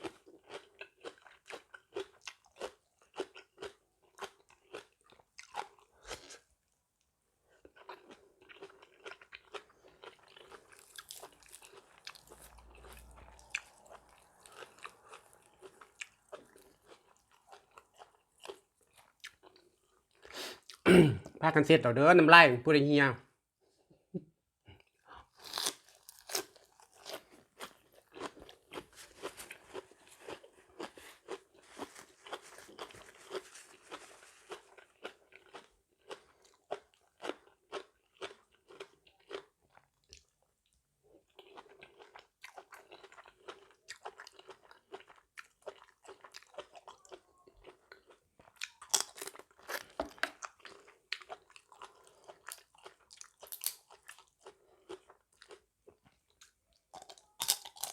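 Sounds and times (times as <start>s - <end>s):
person chewing crunchy food: 0.0s - 6.7s, 7.4s - 20.8s, 24.8s - 57.9s.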